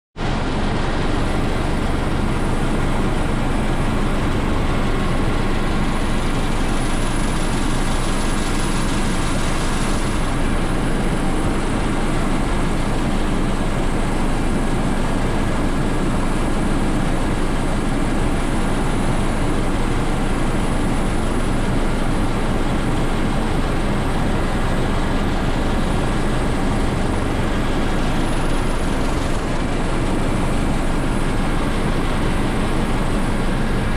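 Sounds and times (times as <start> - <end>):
helicopter engine and rotor: 0.2 - 33.9.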